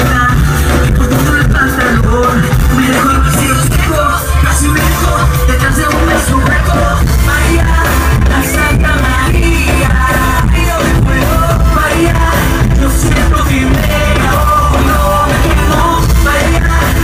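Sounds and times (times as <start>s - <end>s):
live band music: 0.0s - 17.0s
man singing into a microphone: 0.0s - 17.0s.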